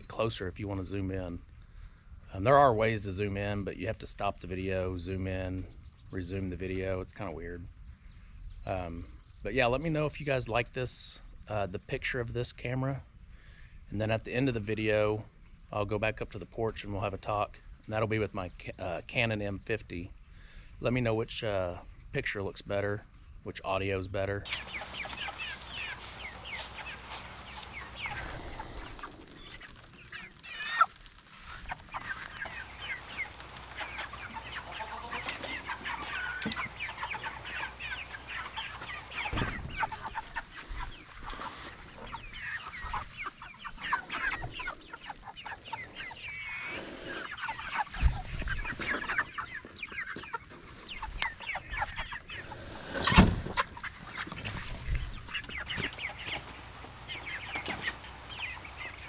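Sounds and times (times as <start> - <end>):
chickens clucking and peeping: 0.0 - 20.2, 23.5 - 59.0.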